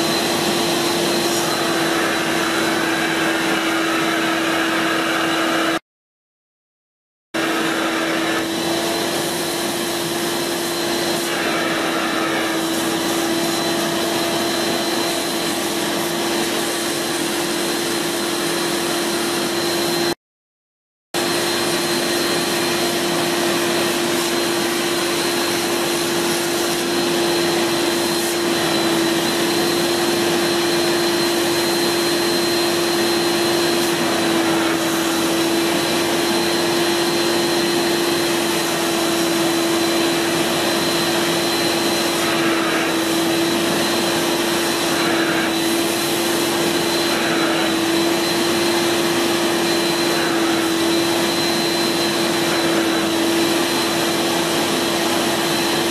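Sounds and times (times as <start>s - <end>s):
carpet cleaner suction hum: 0.0s - 5.8s, 7.4s - 20.2s, 21.2s - 55.9s.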